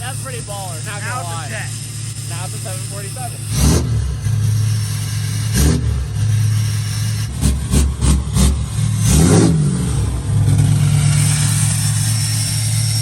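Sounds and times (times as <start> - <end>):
pickup truck engine revving: 0.0 - 13.0.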